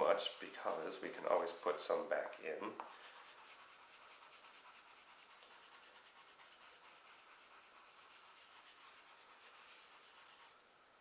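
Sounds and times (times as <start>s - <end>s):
eraser scrubbing on paper: 0.0s - 10.6s.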